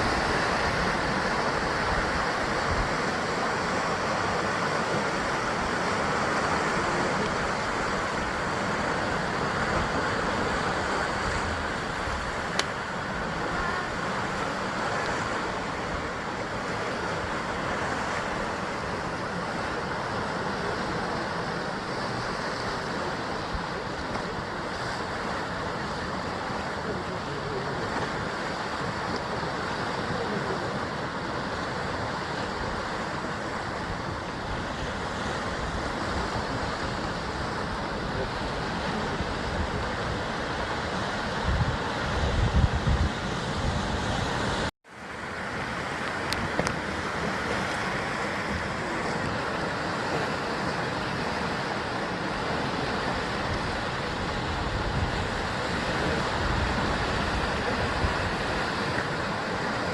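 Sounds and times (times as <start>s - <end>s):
sea surf washing against rocks: 0.0s - 59.9s.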